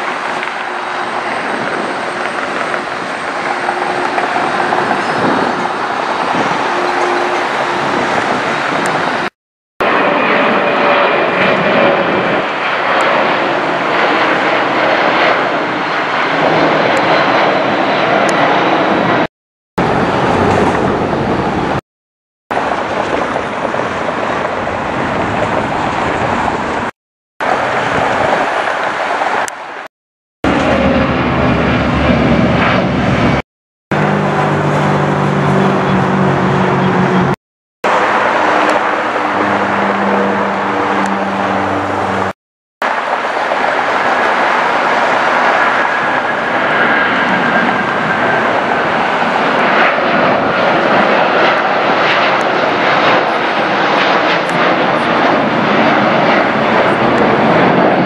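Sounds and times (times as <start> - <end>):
jet airliner engines: 0.0 - 21.8, 22.5 - 58.0.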